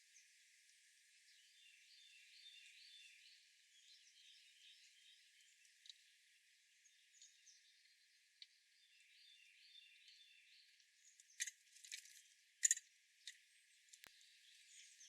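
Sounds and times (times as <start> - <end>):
small birds chirping: 1.1 - 15.0.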